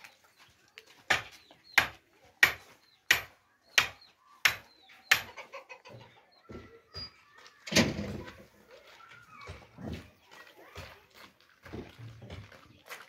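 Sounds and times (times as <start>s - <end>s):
footsteps on dirt and gravel: 0.0s - 4.3s, 6.4s - 13.0s.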